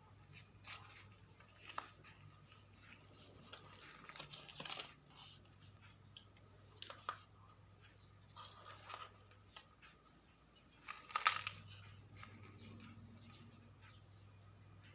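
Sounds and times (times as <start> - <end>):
cat rustling and scratching: 0.0 - 7.4, 8.2 - 13.7.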